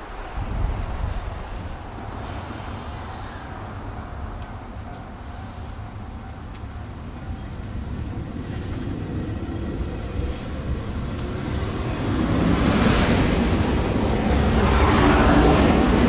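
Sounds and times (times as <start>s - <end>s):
electric train approaching: 0.0s - 16.0s.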